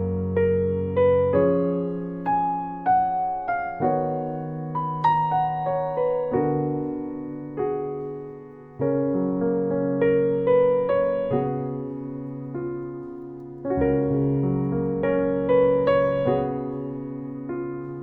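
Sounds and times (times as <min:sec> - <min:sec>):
gentle solo piano melody: 0:00.0 - 0:18.0.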